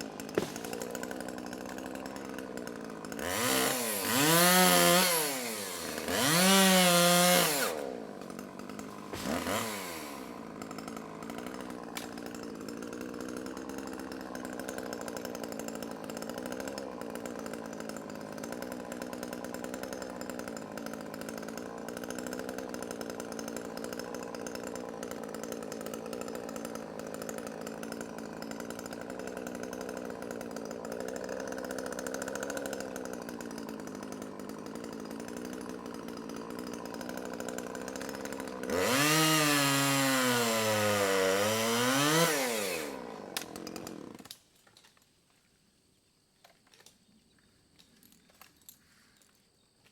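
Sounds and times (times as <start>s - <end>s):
chainsaw engine revving: 0.0s - 44.4s.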